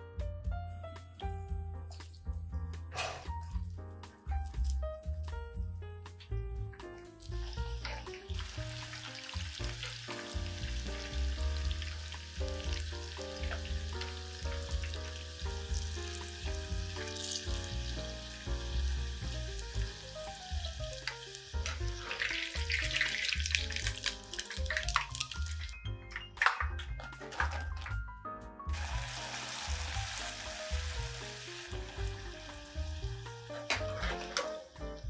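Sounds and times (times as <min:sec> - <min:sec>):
background music: 0:00.0 - 0:35.0
oil sizzling and crackling: 0:01.9 - 0:28.0, 0:28.7 - 0:35.0.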